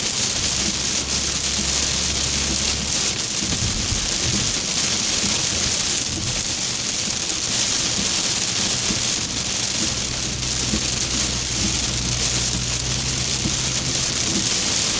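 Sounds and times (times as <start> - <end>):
rain beating on a car: 0.0 - 14.9.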